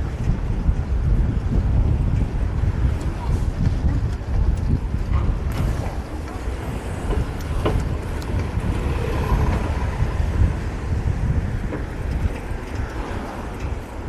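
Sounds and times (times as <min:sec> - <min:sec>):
street traffic rumbling: 0:00.0 - 0:14.0.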